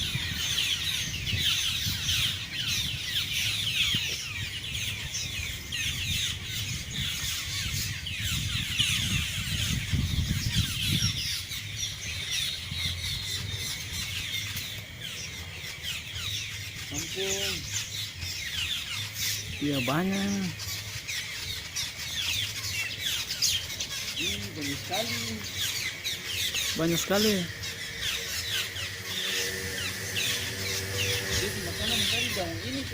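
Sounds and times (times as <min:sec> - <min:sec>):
flock of birds chattering: 0:00.0 - 0:32.9.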